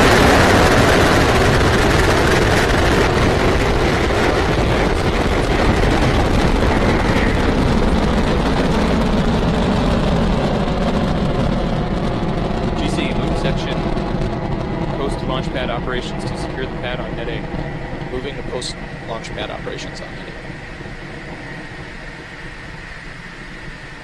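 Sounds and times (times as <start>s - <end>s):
rocket engines roaring: 0.0s - 24.0s.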